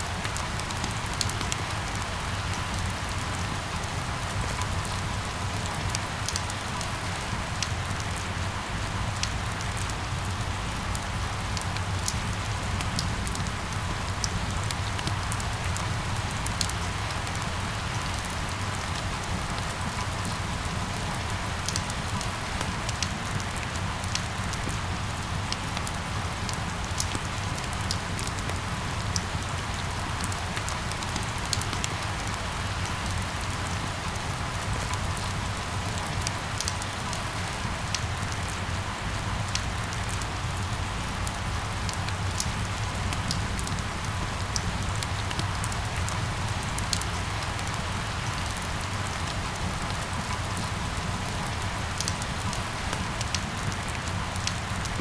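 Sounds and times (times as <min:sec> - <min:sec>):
rain falling: 0:00.0 - 0:55.0
sharp raindrop ticks: 0:04.5 - 0:08.3, 0:09.1 - 0:55.0.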